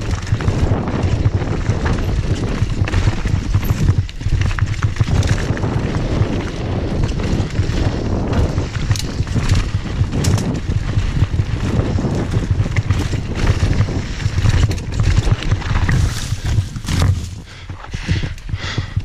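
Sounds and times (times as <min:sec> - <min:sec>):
tyres crunching over gravel: 0:00.0 - 0:18.8
bike rattling clicks and knocks: 0:00.0 - 0:19.0
wind rumble on microphone: 0:00.0 - 0:19.0.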